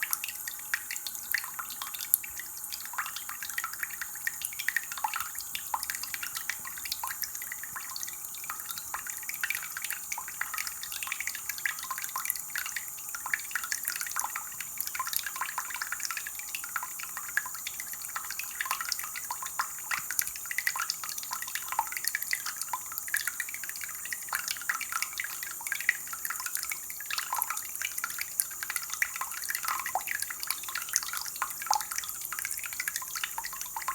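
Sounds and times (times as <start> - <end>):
water dripping and trickling: 0.0 - 33.9.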